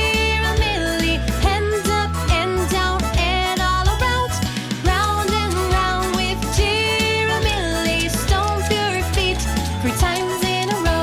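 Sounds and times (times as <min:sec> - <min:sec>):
upbeat children's song music: 0:00.0 - 0:11.0.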